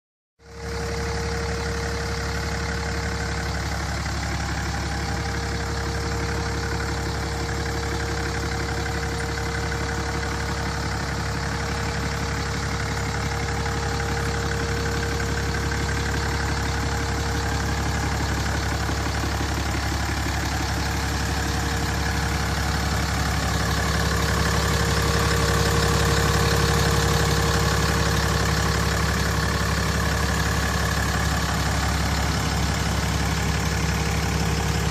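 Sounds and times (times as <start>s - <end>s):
diesel engine idling: 0.4s - 34.9s.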